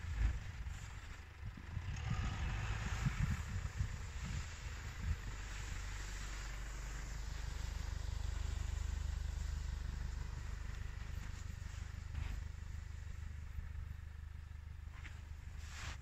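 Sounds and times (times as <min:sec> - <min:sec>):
suv engine driving through snow: 0:00.0 - 0:16.0.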